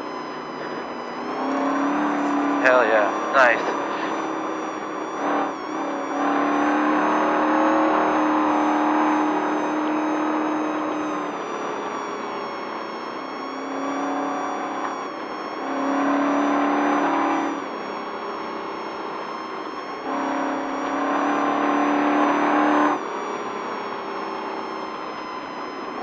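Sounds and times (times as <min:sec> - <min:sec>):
race truck engine revving: 0:00.0 - 0:26.0.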